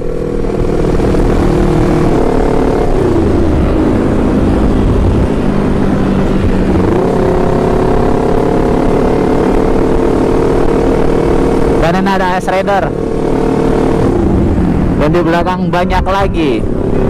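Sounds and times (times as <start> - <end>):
motorcycle engine running: 0.0 - 17.0
wind and road noise rumble: 0.0 - 17.0.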